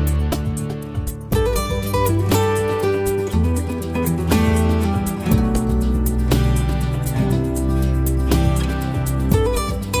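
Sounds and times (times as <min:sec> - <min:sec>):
instrumental music with plucked strings: 0:00.0 - 0:10.0.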